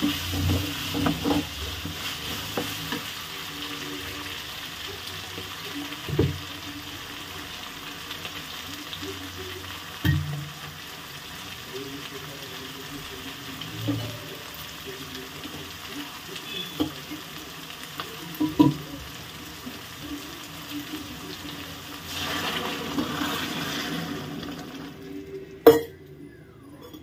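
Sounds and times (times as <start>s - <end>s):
vegetables frying and sizzling: 0.0s - 25.9s.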